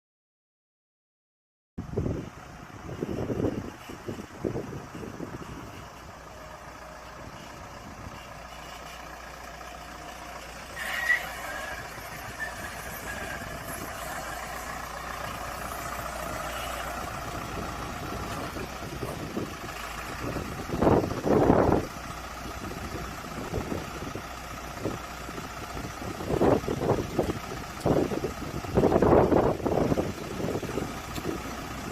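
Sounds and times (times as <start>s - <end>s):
vehicle engine running: 1.8s - 31.9s.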